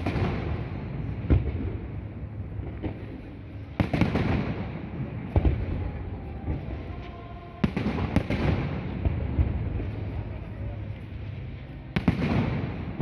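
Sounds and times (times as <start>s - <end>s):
fireworks bangs: 0.0s - 13.0s
rumble and crackle of fireworks: 0.0s - 13.0s.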